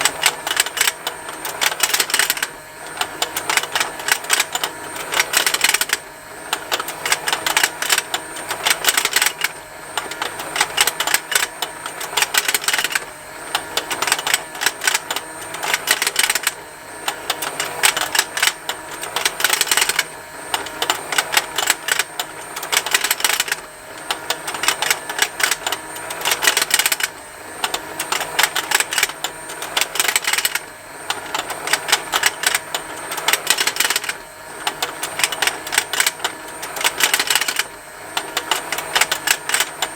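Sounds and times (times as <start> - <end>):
faint motor whine: 0.0 - 39.9
toy rapid ticking: 0.0 - 39.9.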